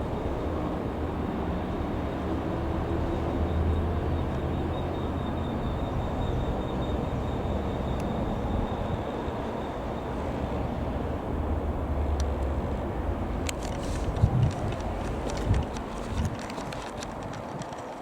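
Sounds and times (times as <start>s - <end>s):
light aircraft engine drone: 0.0s - 17.8s.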